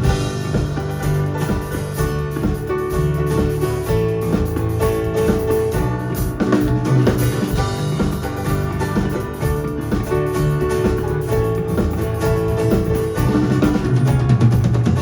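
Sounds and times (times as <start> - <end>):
drum kit beats: 0.0 - 15.0
guitar: 0.0 - 15.0
live band playing: 0.0 - 15.0.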